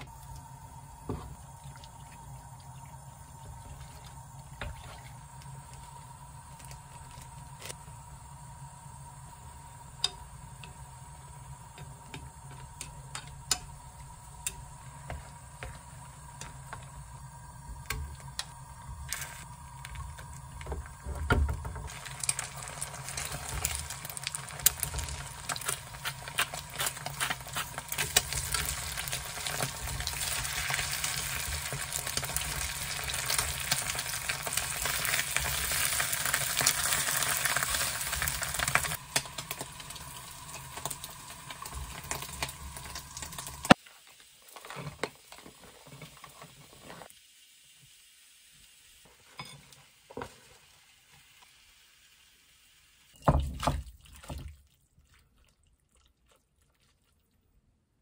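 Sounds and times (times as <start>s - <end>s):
hot pot simmering: 0.0s - 54.4s
zucchini frying in oil: 0.0s - 54.4s.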